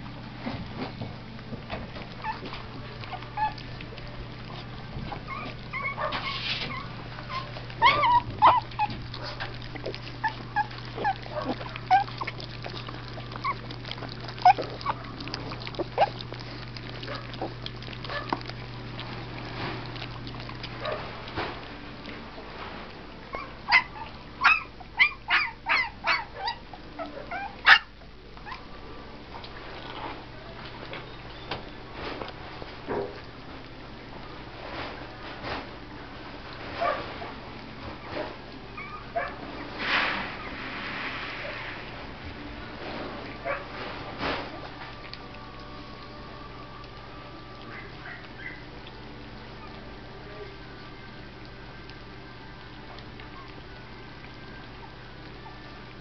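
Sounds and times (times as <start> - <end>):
puppies whimpering and yipping: 1.7 - 42.3, 43.2 - 56.0.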